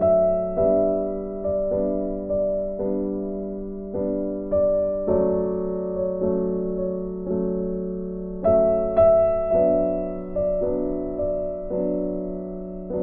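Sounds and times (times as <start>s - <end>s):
slow calm piano music: 0.0s - 13.0s.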